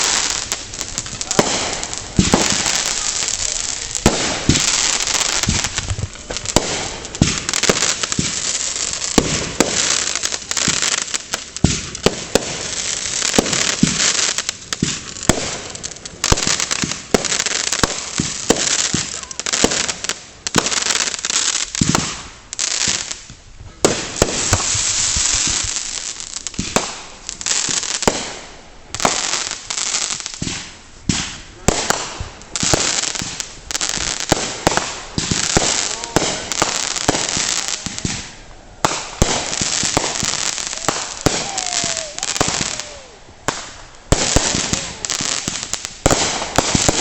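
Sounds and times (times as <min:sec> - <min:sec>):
fireworks bangs and pops: 0:00.0 - 0:47.0
fireworks crackling hiss: 0:00.0 - 0:47.0.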